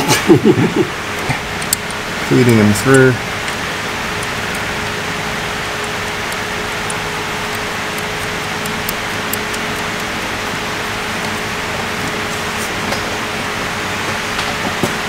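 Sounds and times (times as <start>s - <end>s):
constant hum: 0.0s - 15.0s
workshop background hiss: 0.0s - 15.0s.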